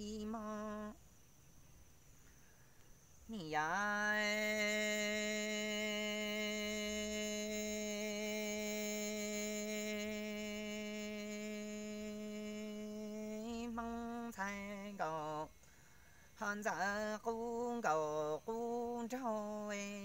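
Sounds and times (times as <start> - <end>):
man singing unaccompanied: 0.0 - 1.0, 3.3 - 15.7, 16.4 - 20.0.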